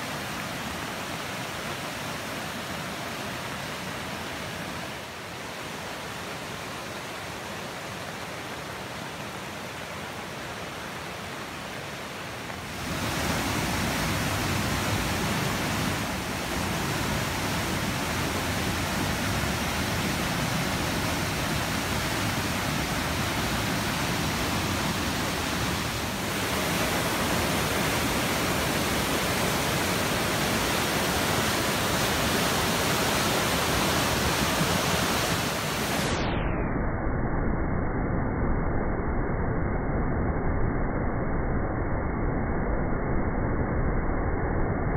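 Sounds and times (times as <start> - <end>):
river rushing in flood: 0.0 - 36.2.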